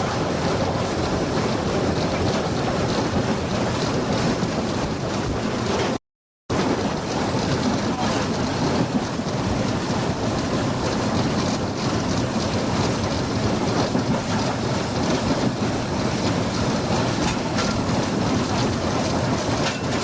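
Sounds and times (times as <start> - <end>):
steam train running: 0.0 - 20.0.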